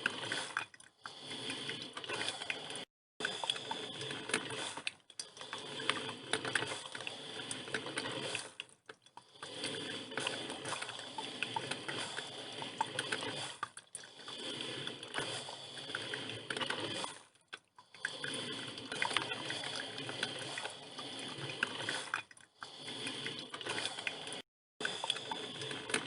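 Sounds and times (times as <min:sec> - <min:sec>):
coffee machine water gurgling: 0:00.0 - 0:26.0.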